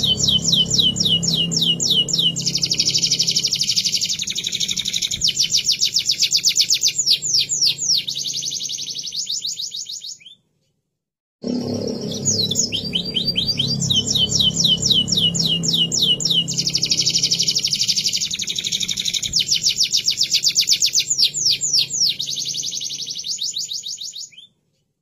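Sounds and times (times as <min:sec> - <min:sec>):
canary singing trills: 0:00.0 - 0:10.4, 0:11.7 - 0:24.5.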